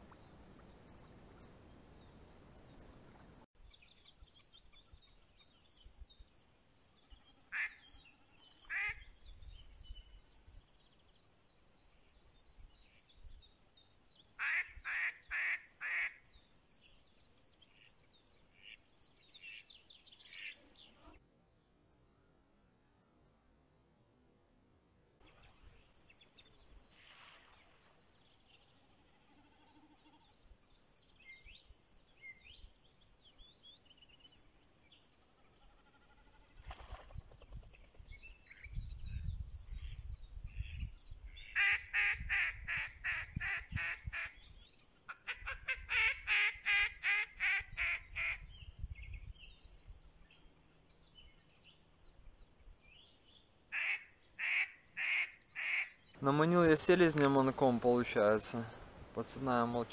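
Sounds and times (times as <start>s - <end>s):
faint small birds chirping: 0.0s - 23.1s, 25.2s - 59.9s.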